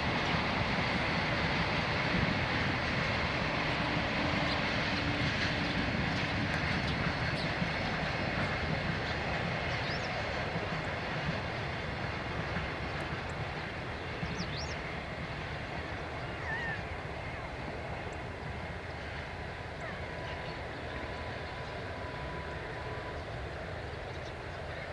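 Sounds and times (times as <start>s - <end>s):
freight train rolling past: 0.0s - 24.9s.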